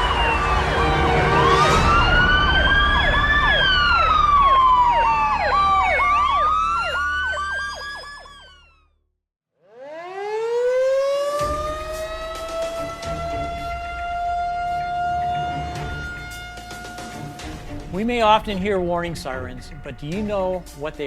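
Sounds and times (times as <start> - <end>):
outdoor warning siren winding up: 0.0 - 8.9, 9.7 - 20.8
emergency vehicle sirens: 0.0 - 9.0, 9.6 - 21.0.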